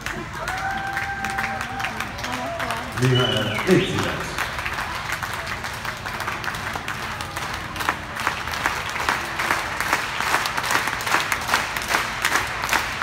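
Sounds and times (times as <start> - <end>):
audience applauding: 0.0 - 13.0
rhythmic clapping in unison: 0.0 - 13.0.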